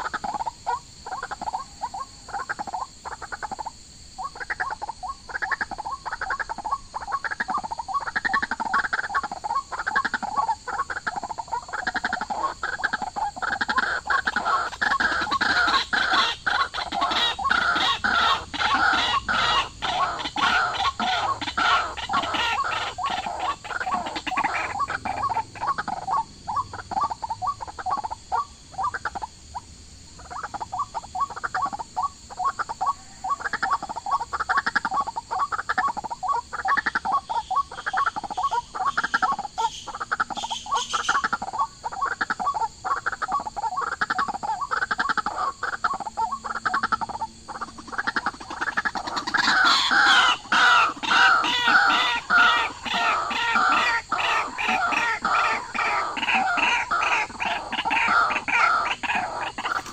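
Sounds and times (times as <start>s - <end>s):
chorus of repeated animal calls: 0.0s - 59.9s.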